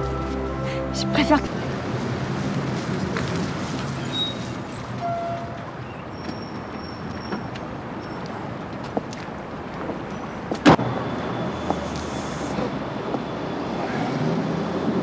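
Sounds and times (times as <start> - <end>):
car engine approaching: 0.0 - 15.0.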